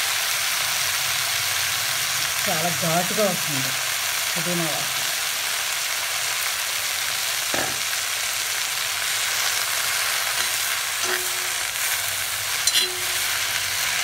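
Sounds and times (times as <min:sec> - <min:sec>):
leaves sizzling in hot oil: 0:00.0 - 0:14.0.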